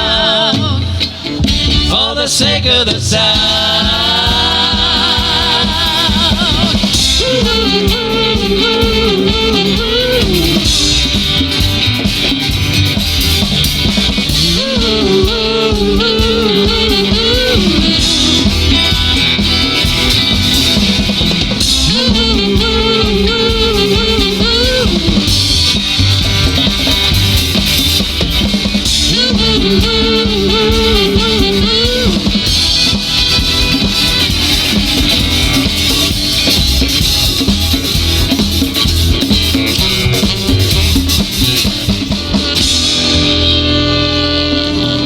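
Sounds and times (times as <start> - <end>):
bass: 0.0 - 45.0
drums: 0.0 - 45.0
lead guitar melody with bent notes: 3.3 - 45.0.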